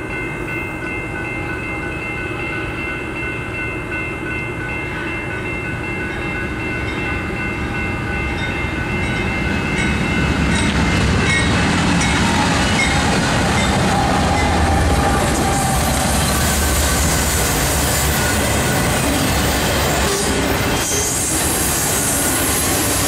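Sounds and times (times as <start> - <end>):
crossing bells ringing: 0.0 - 21.3
freight train passing: 0.0 - 23.0
train wheel noise: 0.0 - 23.0.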